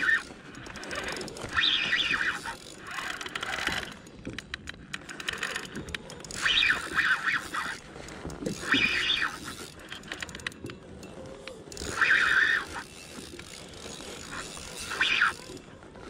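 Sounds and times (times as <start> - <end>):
fishing reel clicking and whirring: 0.0 - 16.0.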